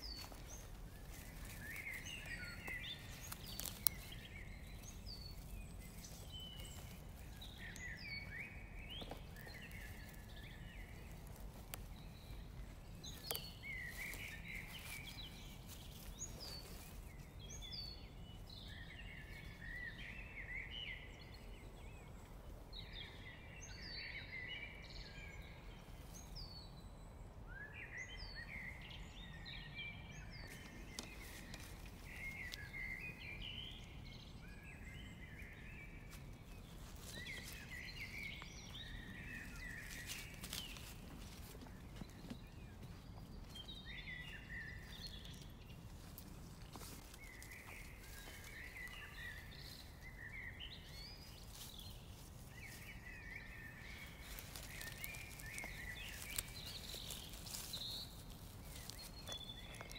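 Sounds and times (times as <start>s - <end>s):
songbird twittering: 0.0s - 59.9s.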